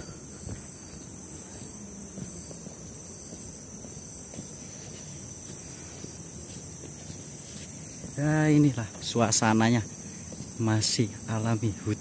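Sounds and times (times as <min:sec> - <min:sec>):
footsteps on forest trail: 0:00.0 - 0:12.0
insects chorus: 0:00.0 - 0:12.0.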